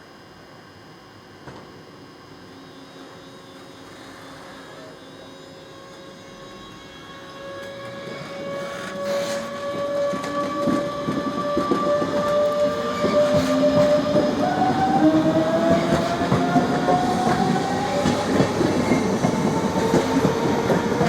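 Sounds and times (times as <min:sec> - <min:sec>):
electric train whine rising: 0:01.4 - 0:21.0.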